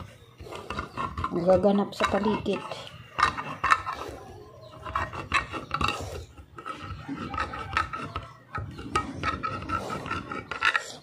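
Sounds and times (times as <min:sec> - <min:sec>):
can opener scraping metal: 0:00.0 - 0:11.0.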